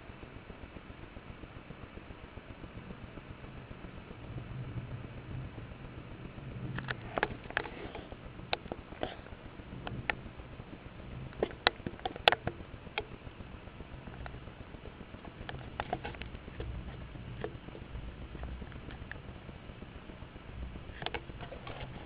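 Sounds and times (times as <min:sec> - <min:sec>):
low steady rumble: 0:00.0 - 0:22.0
raindrops tapping on hard surface: 0:04.2 - 0:22.0.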